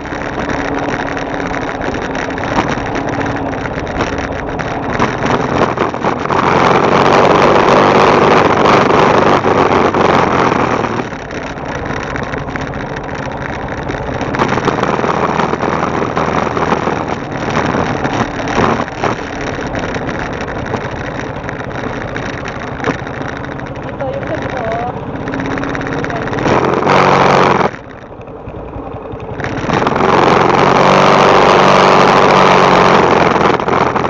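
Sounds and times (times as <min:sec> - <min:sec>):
rushing noise: 0:00.0 - 0:28.0
motorcycle engine running: 0:00.0 - 0:34.0.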